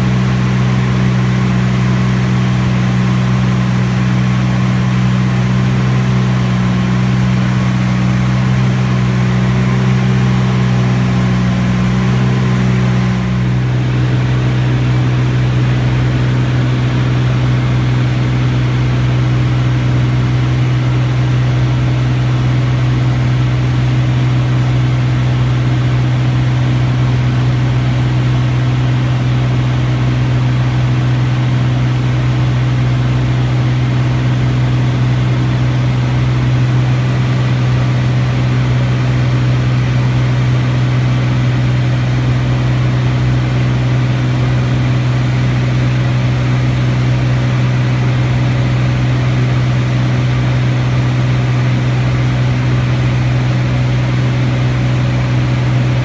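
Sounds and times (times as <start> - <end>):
engine drone with low hum: 0.0 - 56.0.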